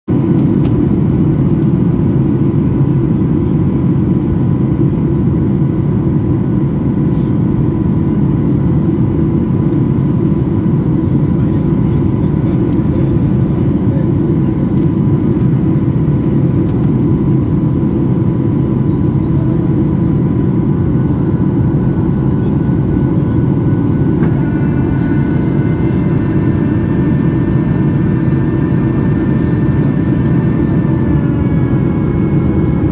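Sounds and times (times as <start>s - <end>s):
airplane cabin engine rush: 0.1s - 32.9s.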